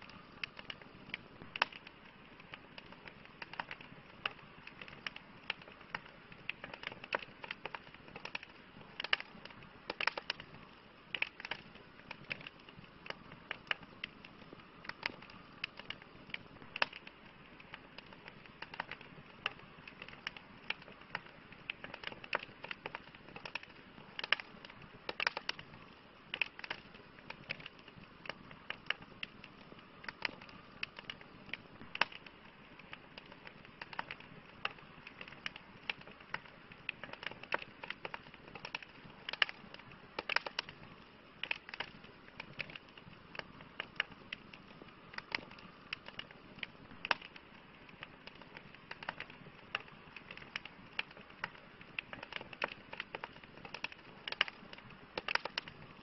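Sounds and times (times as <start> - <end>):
campfire crackling: 0.0 - 56.0
hiss of burning logs: 0.0 - 56.0.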